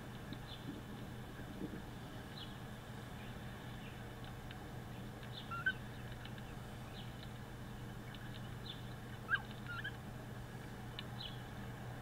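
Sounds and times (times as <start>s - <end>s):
faint high calls and ticks: 0.0s - 11.8s.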